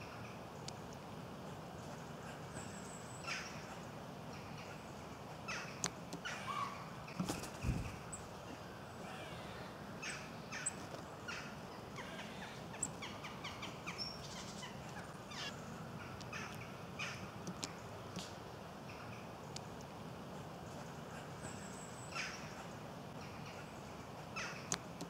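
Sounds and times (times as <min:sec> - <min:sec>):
woodland birds calling: 0:02.4 - 0:19.9, 0:21.3 - 0:25.0.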